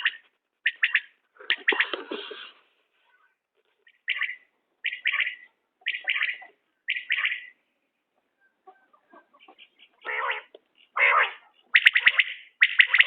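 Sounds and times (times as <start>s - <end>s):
quail calling: 0.0s - 2.4s, 3.8s - 7.6s, 8.3s - 13.0s.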